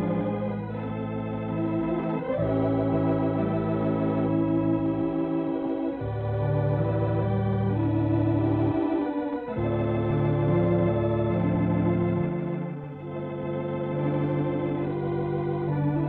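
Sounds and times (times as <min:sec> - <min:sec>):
organ music: 0:00.0 - 0:16.0.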